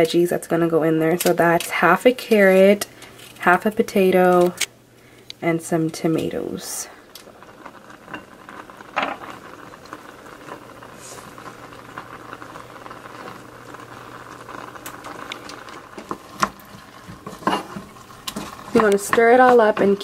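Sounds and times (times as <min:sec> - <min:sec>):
pot bubbling and crackling: 0:00.0 - 0:20.0.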